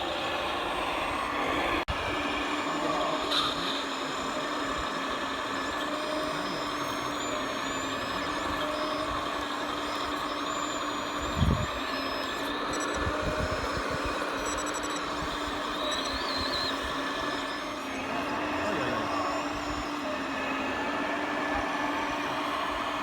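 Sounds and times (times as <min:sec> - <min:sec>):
electric motors humming and whining: 0:00.0 - 0:23.0.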